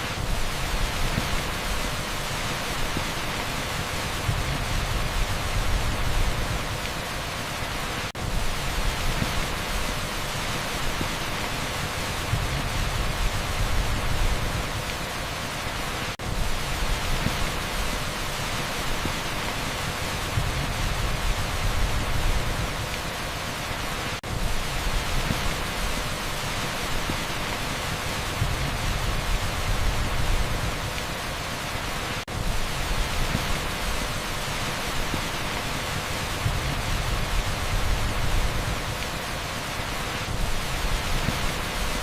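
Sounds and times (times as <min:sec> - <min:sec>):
torrential rain on asphalt: 0:00.0 - 0:42.0.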